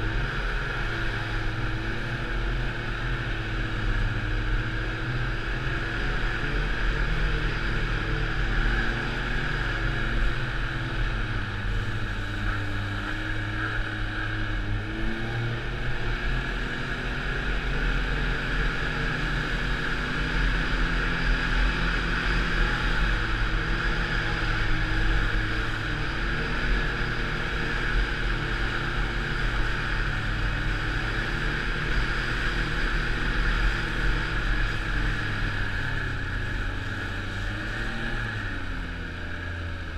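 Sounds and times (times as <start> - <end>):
constant rushing noise: 0.0 - 39.9
snowmobile engine running: 0.0 - 39.9.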